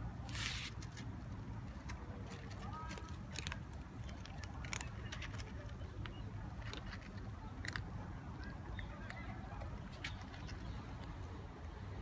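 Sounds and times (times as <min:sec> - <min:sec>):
cats chewing food: 0:00.3 - 0:12.0.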